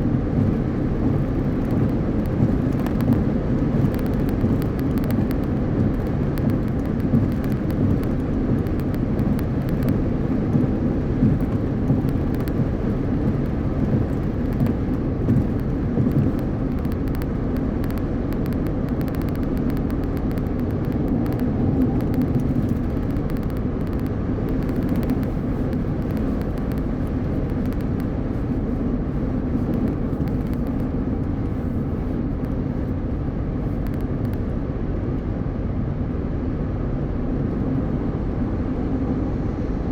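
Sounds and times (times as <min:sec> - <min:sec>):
tyre and road noise: 0:00.0 - 0:34.9
wind: 0:00.0 - 0:39.9.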